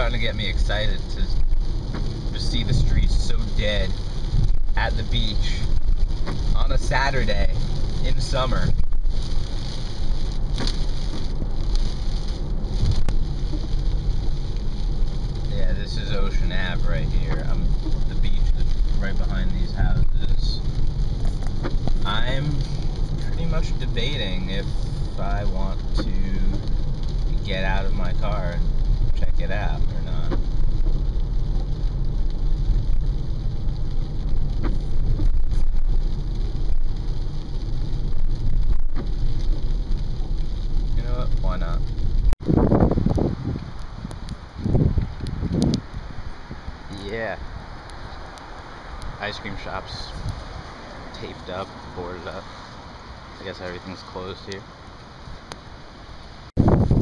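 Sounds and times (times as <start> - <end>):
car engine and tyres on wet road: 0.0 - 57.0
light rain hiss: 0.0 - 57.0.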